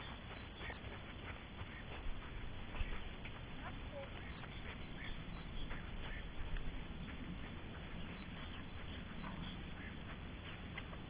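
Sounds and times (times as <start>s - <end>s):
low steady rumble: 0.0s - 11.0s
small birds chirping: 0.0s - 11.0s.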